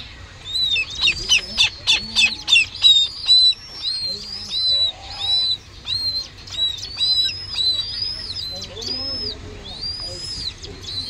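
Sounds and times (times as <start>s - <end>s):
raptor chick begging calls: 0.0s - 11.0s.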